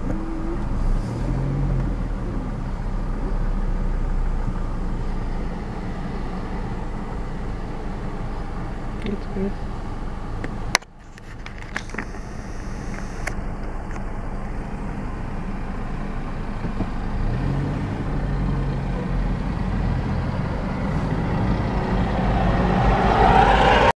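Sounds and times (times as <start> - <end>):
road and wind noise: 0.0 - 24.0
vehicle engine rumble: 0.0 - 24.0.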